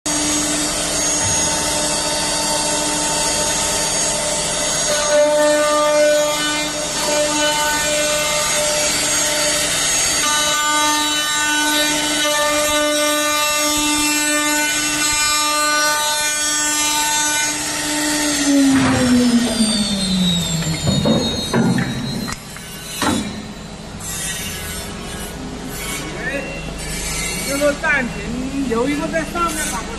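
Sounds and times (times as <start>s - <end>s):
spindle motors whining: 0.1s - 29.9s.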